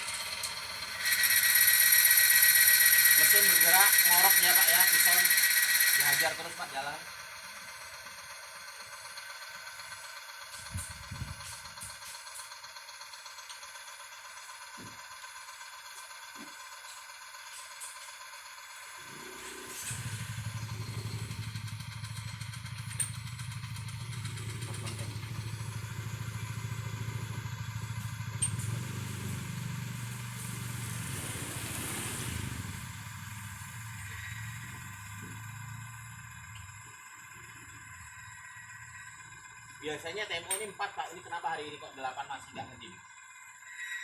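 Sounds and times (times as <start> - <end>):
motor hum: 0.0 - 44.0.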